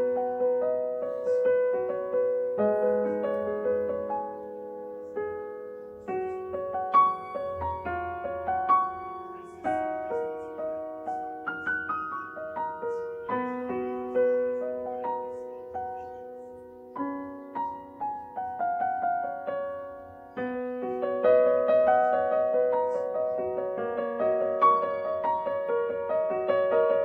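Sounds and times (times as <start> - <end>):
solo piano melody: 0.0 - 27.0.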